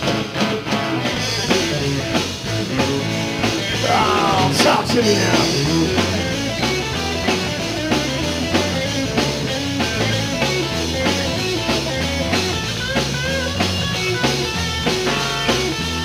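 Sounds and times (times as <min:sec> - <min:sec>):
bass line: 0:00.0 - 0:16.0
electric guitar lead: 0:00.0 - 0:16.0
steady drum beat: 0:00.0 - 0:16.0.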